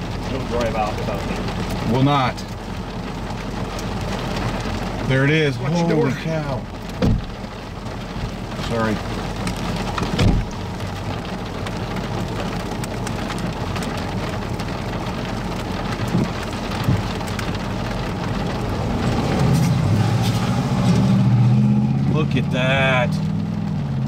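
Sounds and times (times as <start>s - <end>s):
heavy rain: 0.0s - 24.0s
vehicle engine: 0.0s - 24.0s.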